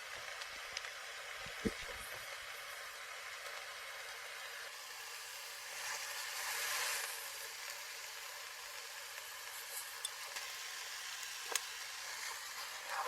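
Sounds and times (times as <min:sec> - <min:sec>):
burgers sizzling: 0:00.0 - 0:13.0.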